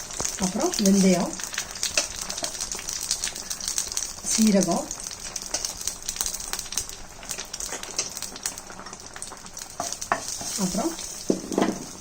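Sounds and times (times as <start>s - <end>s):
frying hiss: 0.0s - 12.0s
seeds popping in hot oil: 0.0s - 12.0s.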